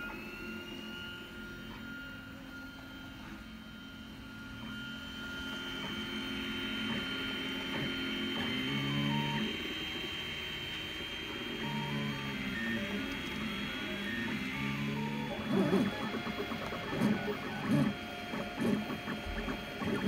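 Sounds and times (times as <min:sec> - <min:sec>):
cooling fan whine: 0:00.0 - 0:20.0.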